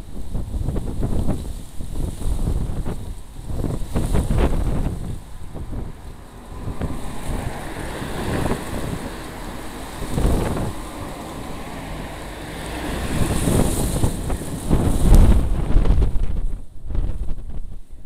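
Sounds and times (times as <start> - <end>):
wind buffeting microphone: 0.0 - 18.0
wind hissing through reeds: 0.0 - 18.0.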